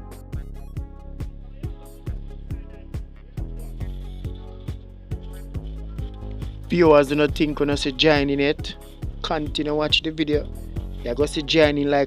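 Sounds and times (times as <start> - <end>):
music with fast electronic beat: 0.0 - 12.0.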